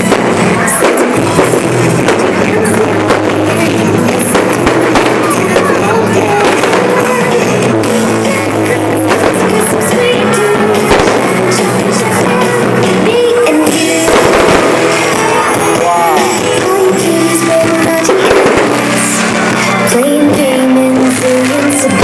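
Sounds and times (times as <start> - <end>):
loud music over loudspeakers: 0.0 - 22.0.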